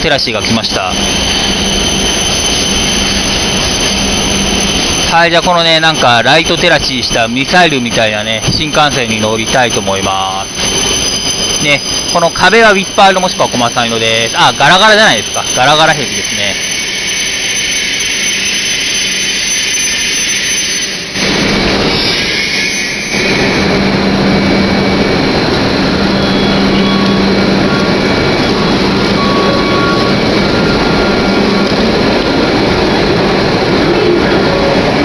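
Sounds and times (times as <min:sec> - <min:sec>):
train blowers whirring: 0:00.0 - 0:05.2, 0:05.8 - 0:35.0.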